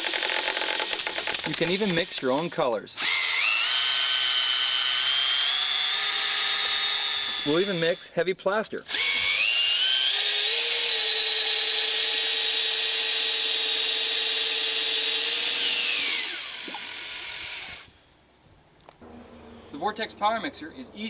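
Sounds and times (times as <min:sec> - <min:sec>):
drill mixer stirring plaster: 0:00.0 - 0:08.1, 0:08.8 - 0:17.9.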